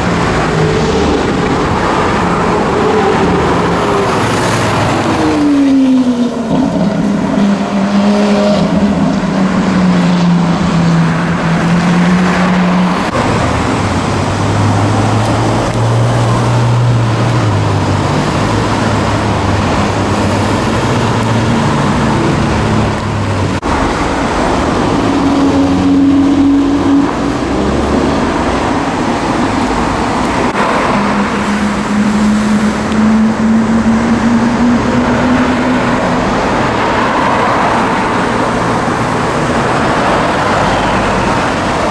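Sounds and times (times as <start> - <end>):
car engines passing: 0.0 - 41.9
road and tyre noise: 0.0 - 41.9.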